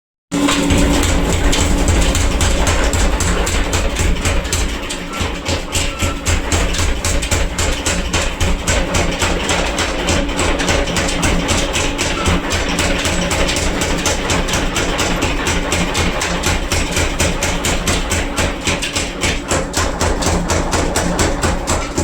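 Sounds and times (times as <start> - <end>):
background music with sharp knocks: 0.3 - 22.0.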